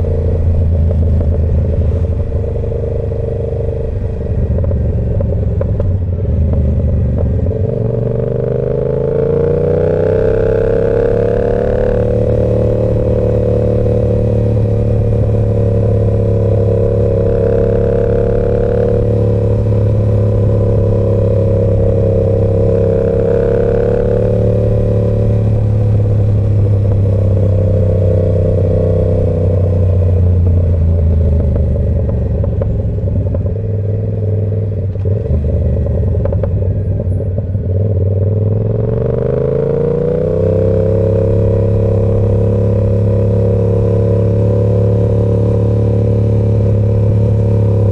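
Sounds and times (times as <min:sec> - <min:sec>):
motorcycle engine while riding: 0:00.0 - 0:47.9.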